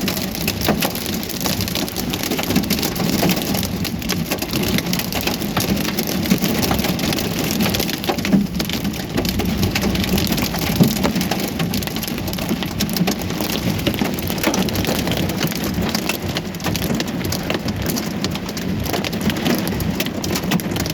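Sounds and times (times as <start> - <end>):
hail and heavy rain pelting: 0.0 - 20.9.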